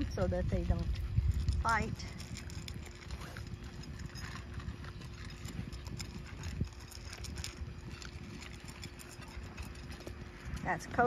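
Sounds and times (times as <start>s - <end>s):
dogs crunching food: 0.0s - 11.0s.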